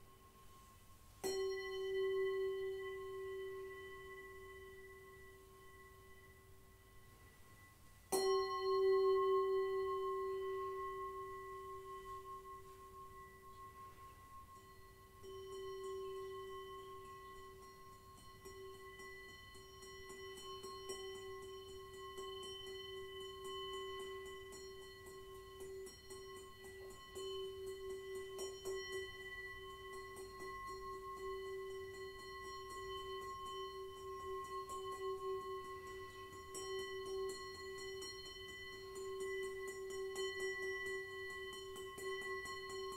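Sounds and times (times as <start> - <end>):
singing bowl ringing: 0.0 - 42.9.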